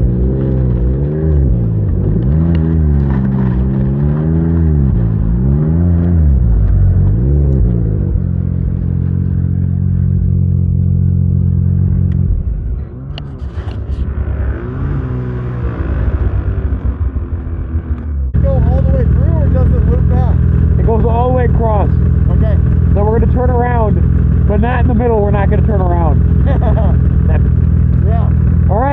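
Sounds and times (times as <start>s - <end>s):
snowmobile engine revving: 0.0s - 28.9s.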